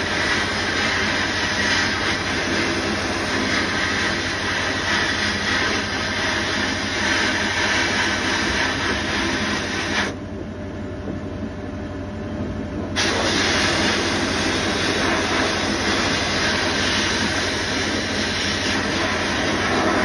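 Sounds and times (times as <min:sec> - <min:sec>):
sandblast gun hissing: 0:00.0 - 0:10.2, 0:13.0 - 0:20.0
low steady hum: 0:00.0 - 0:20.0.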